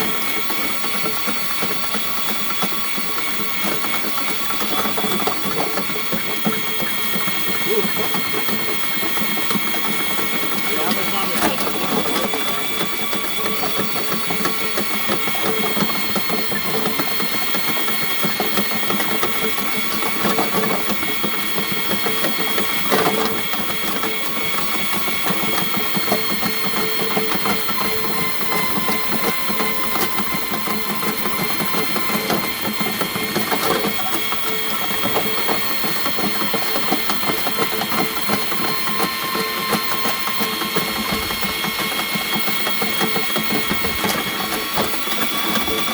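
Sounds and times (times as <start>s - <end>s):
drain-cleaning machine motor whining: 0.0s - 45.9s
spinning cable rattling and clicking: 0.0s - 45.9s.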